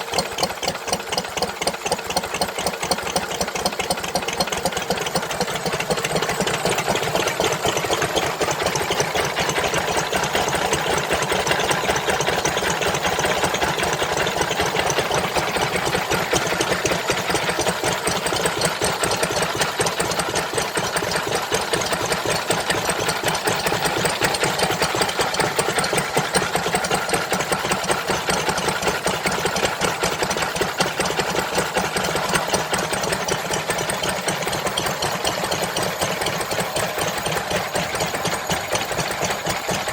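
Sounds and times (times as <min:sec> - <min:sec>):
engine running with fast clatter: 0:00.0 - 0:39.9.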